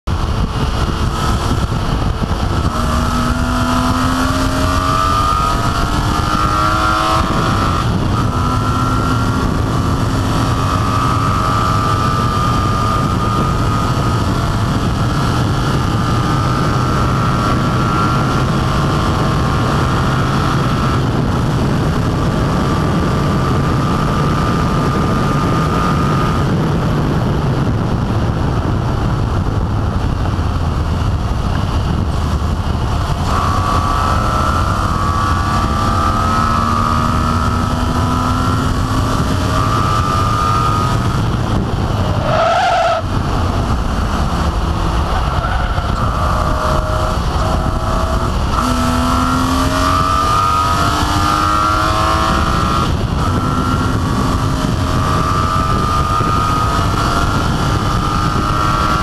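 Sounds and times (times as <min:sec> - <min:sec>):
race car engine at full throttle: 0:00.0 - 0:59.0
wind and tyre noise: 0:00.0 - 0:59.0.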